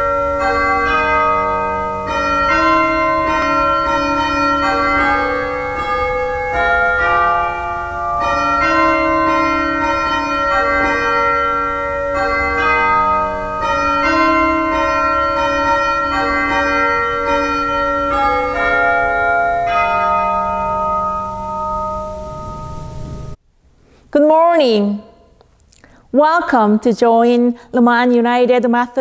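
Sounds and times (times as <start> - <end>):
church bells ringing: 0.0 - 23.4.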